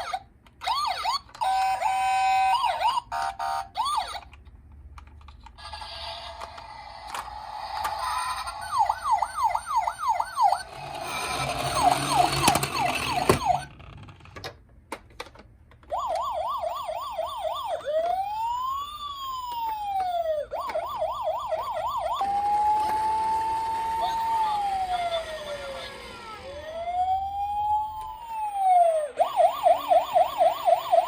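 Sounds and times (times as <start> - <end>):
toy sirens: 0.0 - 4.4, 5.6 - 13.9, 15.9 - 31.0.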